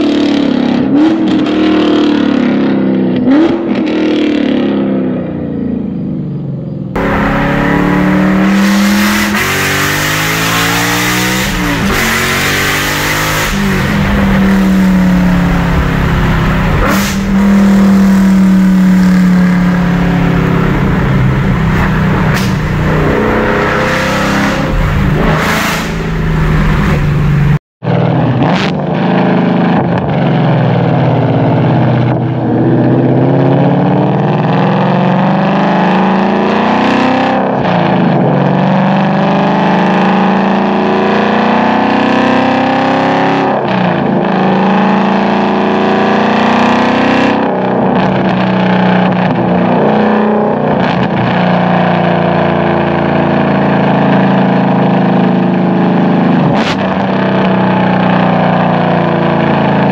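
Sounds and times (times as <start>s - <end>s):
car exhaust roaring: 7.0s - 59.9s.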